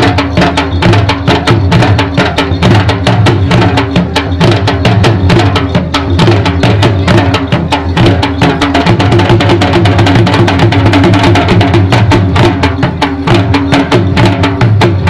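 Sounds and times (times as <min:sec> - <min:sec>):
dhol drums beating: 0:00.0 - 0:15.0.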